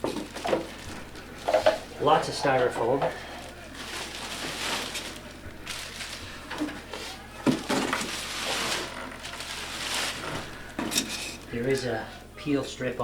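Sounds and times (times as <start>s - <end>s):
packaging rustling and scraping: 0.0s - 11.9s.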